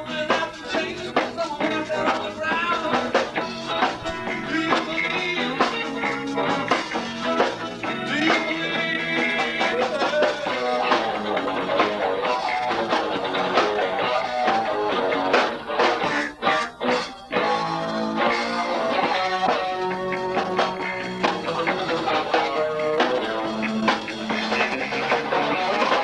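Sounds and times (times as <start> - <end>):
bass guitar: 0.0 - 26.0
electric guitar melody: 0.0 - 26.0
steady drum beat: 0.0 - 26.0.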